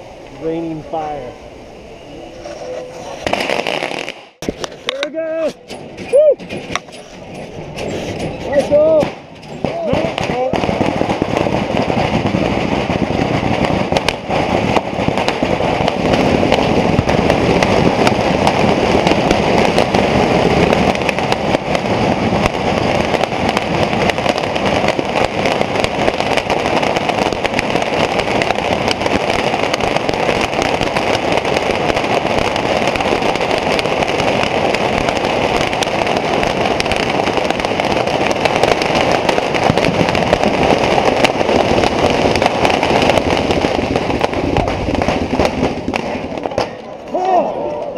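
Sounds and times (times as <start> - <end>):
bottle rockets hissing and crackling: 3.1 - 47.1
sharp firework pops: 3.2 - 47.4.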